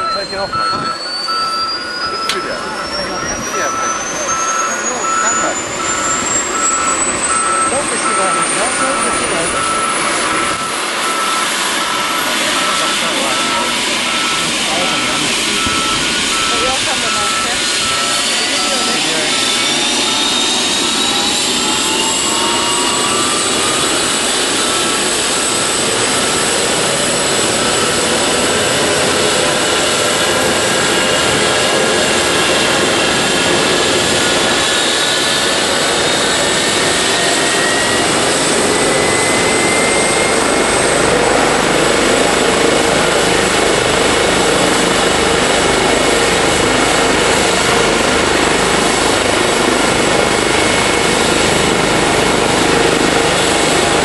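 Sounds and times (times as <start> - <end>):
helicopter rotor rushing: 0.0 - 54.0
helicopter turbine engine whine: 0.0 - 54.0.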